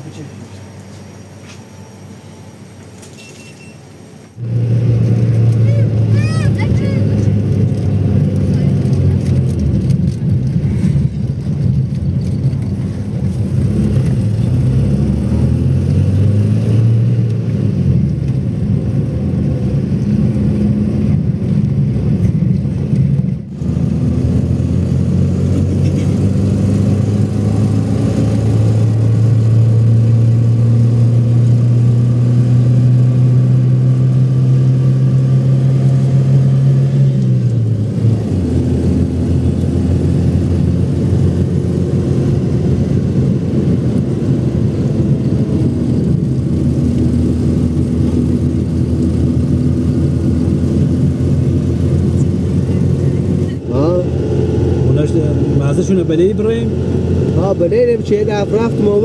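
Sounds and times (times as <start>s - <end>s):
vehicle engine running under load: 0.0s - 59.0s.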